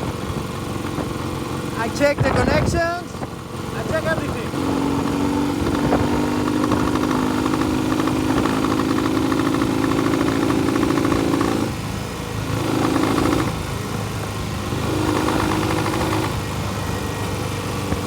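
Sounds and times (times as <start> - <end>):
motorcycle engine running unevenly: 0.0 - 18.0.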